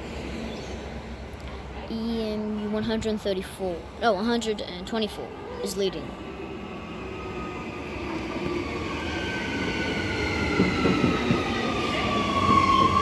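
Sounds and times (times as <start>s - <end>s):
electric train arriving: 0.0s - 13.0s
falling train whine: 0.0s - 13.0s.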